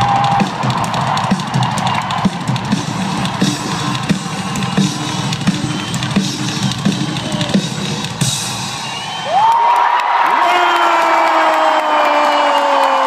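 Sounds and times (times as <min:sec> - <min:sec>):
live rock band in arena: 0:00.0 - 0:13.0.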